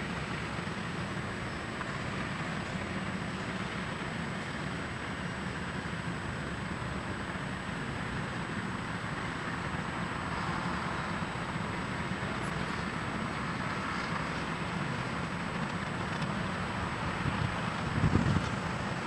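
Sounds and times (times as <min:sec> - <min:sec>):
diesel locomotives idling: 0:00.0 - 0:19.0.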